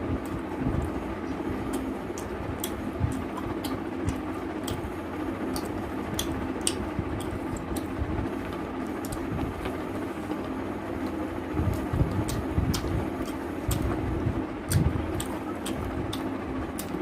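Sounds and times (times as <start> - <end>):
steady low hum: 0.0 - 17.0
wet chewing: 0.2 - 9.8, 11.6 - 14.0, 14.7 - 17.0.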